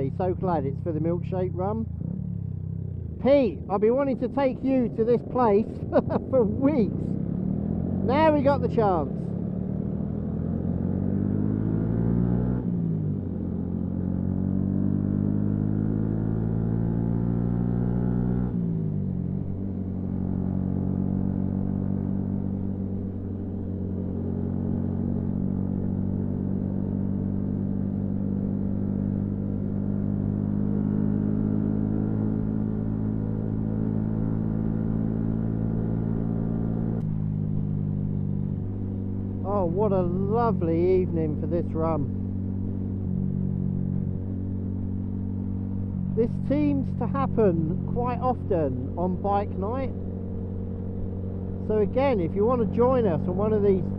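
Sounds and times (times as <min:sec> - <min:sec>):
motorcycle engine shifting gears: 0:05.7 - 0:53.9.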